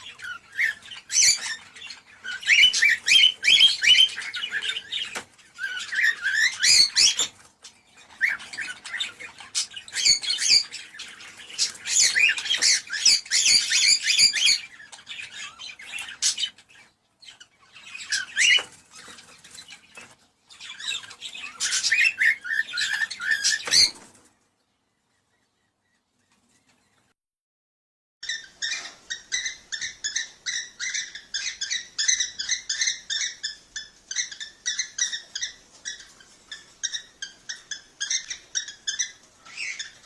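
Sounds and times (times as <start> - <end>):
cockatiels chirping and warbling: 0.0 - 27.1, 28.2 - 40.0.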